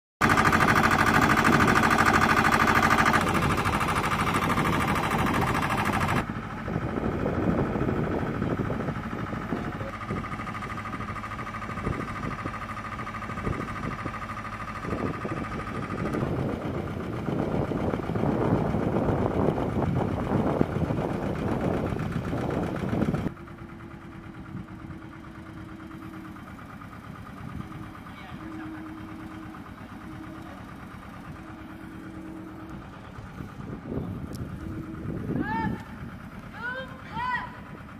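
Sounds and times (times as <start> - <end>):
aircraft engines running: 0.2 - 37.9.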